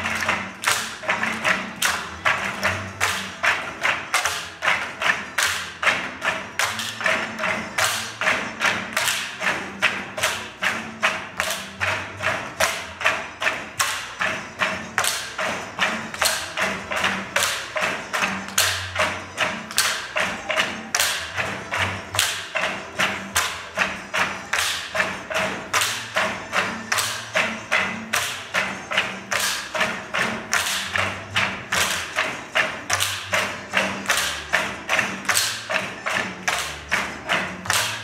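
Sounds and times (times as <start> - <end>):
bamboo poles knocking rhythmically: 0.0 - 38.0.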